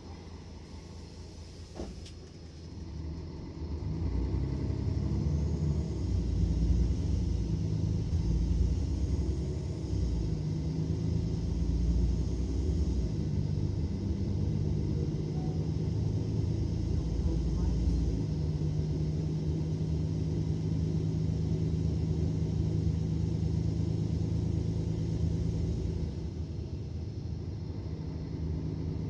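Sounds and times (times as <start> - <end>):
bus diesel engine rumbling: 0.0 - 29.0.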